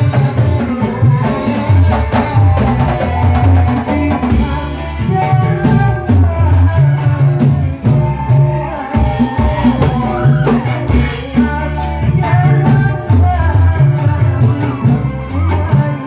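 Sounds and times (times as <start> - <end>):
frame drums beating a rhythm: 0.0 - 16.0.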